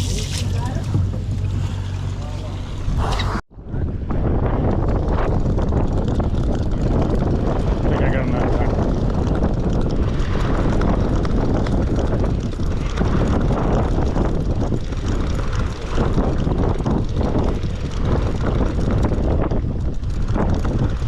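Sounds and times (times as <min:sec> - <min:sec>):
boat engine drone: 0:00.0 - 0:03.4, 0:05.0 - 0:21.0
wind buffeting microphone: 0:00.0 - 0:21.0.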